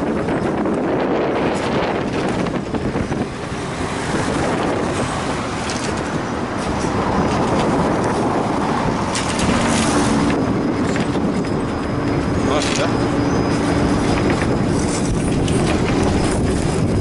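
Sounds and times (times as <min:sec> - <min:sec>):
road and engine noise: 0:00.0 - 0:17.0
wind through open window: 0:00.0 - 0:17.0.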